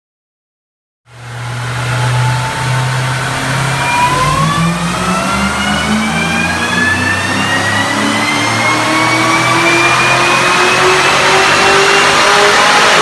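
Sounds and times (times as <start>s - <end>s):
car engine revving under load: 1.1s - 13.0s
supercharger whine: 1.1s - 13.0s.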